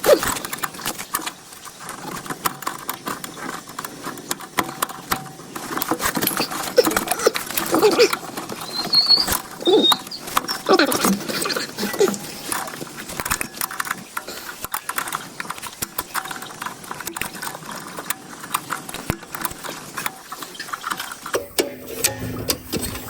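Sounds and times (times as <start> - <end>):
hand tools clicking and scraping: 0.0 - 23.0.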